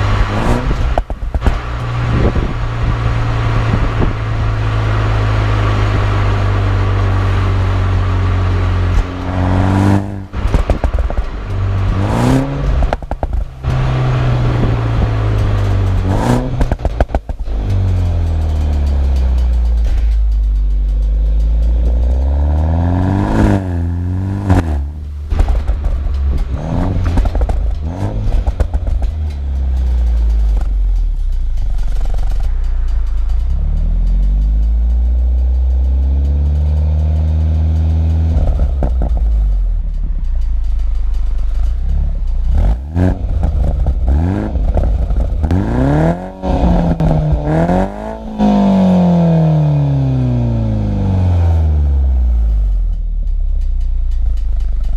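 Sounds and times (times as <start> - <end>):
car engine and exhaust: 0.0 - 54.9
exhaust crackles and pops: 0.0 - 54.9.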